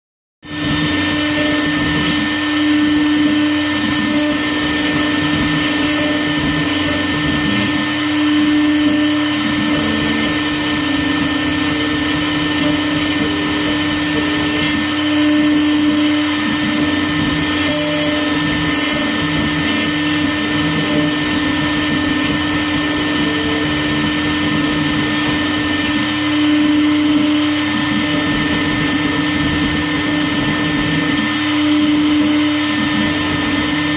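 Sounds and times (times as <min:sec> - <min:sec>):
router spindle whining: 0:00.4 - 0:33.9
bit cutting wood: 0:00.5 - 0:33.9.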